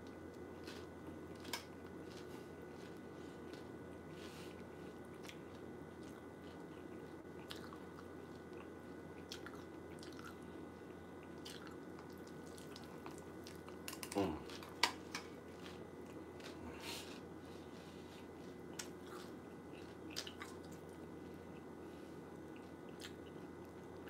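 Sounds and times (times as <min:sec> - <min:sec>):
person chewing cereal: 0:00.0 - 0:24.0
steady low hum: 0:00.0 - 0:24.0.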